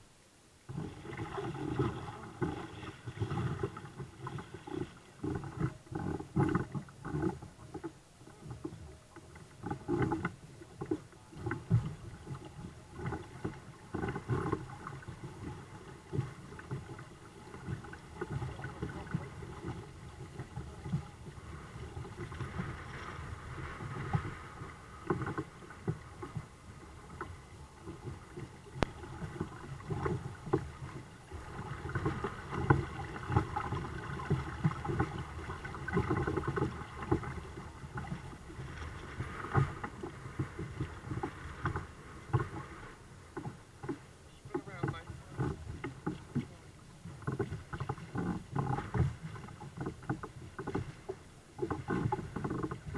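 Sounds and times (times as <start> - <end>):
water splashing against hulls: 0.6 - 52.9.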